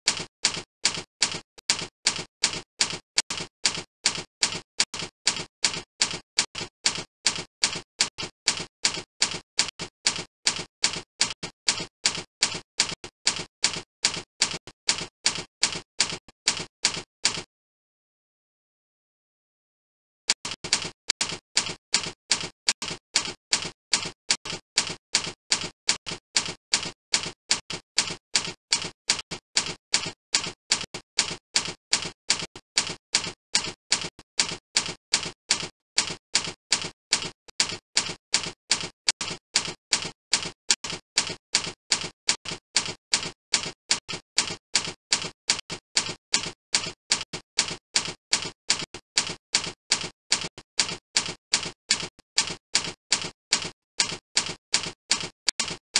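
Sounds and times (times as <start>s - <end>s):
typewriter clicking: 0.1s - 17.4s, 20.4s - 55.8s.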